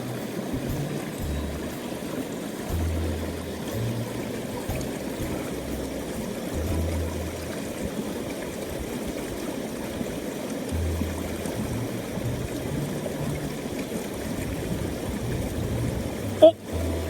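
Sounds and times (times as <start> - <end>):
low rumbles: 0.0 - 9.4, 10.7 - 17.0
stream rushing over rocks: 0.0 - 17.0.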